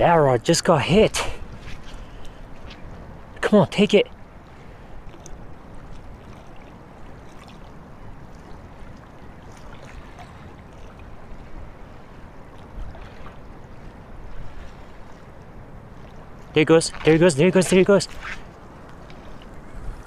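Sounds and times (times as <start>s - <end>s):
small waves lapping: 0.0s - 20.0s
wind rumbling on microphone: 1.1s - 3.4s, 4.1s - 20.0s.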